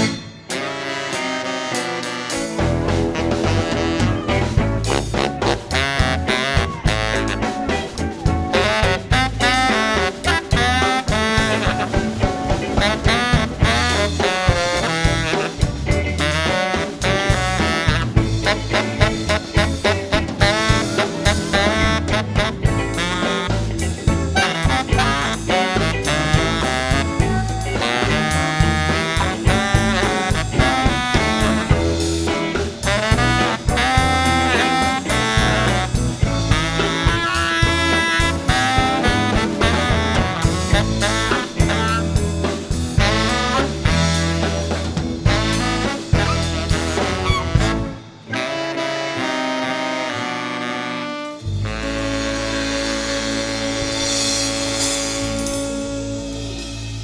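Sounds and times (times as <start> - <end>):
bass groove: 0.0 - 48.9, 51.3 - 57.0
band horns and saxophone: 0.0 - 57.0.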